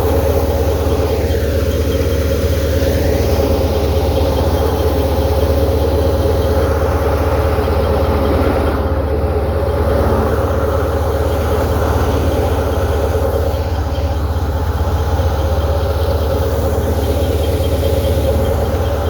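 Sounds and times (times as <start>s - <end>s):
tractor engine driving thresher: 0.0s - 19.0s.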